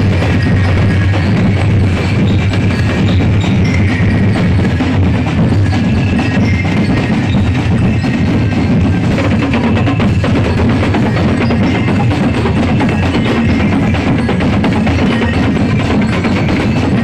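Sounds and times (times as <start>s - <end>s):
loud percussive music: 0.0s - 17.0s.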